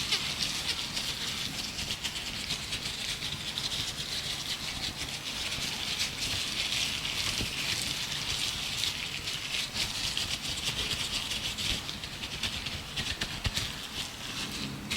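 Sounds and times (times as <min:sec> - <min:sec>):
gloved hands rubbing and crinkling: 0:00.0 - 0:14.9.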